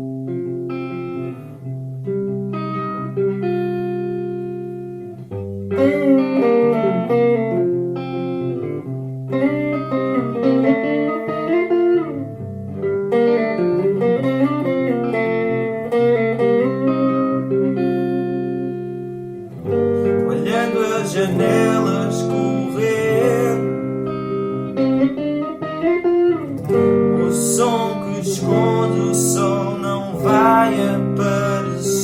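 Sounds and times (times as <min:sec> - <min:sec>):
looped guitar music: 0:00.0 - 0:32.0.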